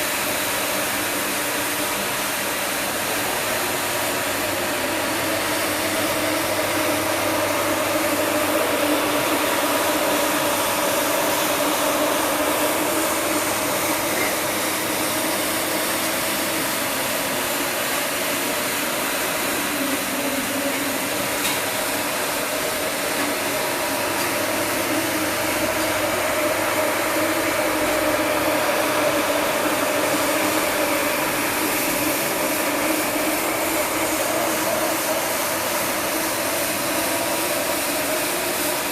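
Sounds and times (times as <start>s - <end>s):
floor polisher motor whir: 0.0s - 38.9s.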